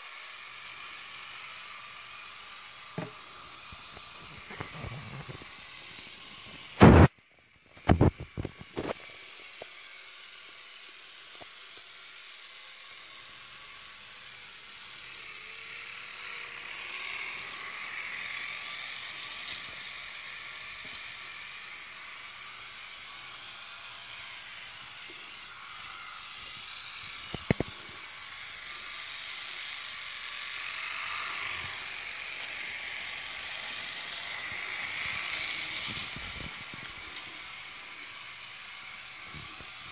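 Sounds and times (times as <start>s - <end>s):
model train running on track: 0.0s - 39.9s.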